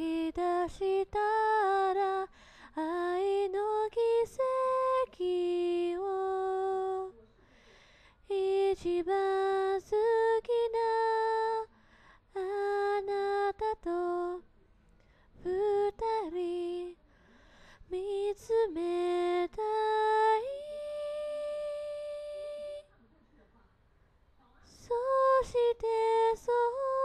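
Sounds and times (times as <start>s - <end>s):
woman singing unaccompanied: 0.0s - 7.1s, 8.2s - 11.7s, 12.3s - 14.4s, 15.4s - 17.0s, 17.8s - 22.9s, 24.7s - 27.0s.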